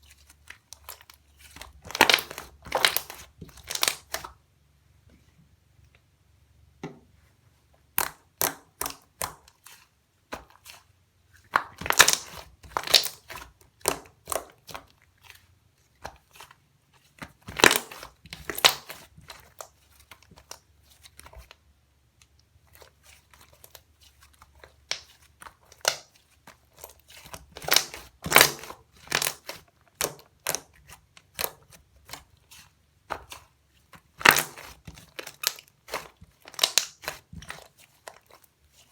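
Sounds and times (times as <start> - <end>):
slime squished by hand: 0.6 - 4.4, 7.9 - 21.5, 22.7 - 38.9.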